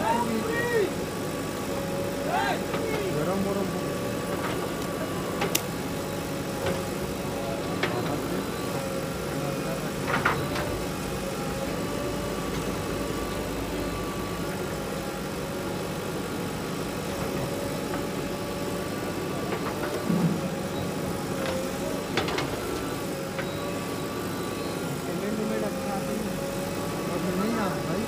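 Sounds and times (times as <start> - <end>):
diesel engines running at low revs: 0.0 - 28.0.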